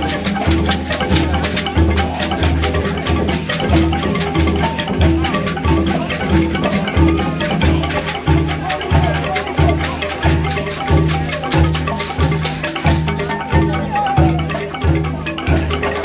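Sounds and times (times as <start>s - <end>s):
fast rattle shaking: 0.0s - 16.0s.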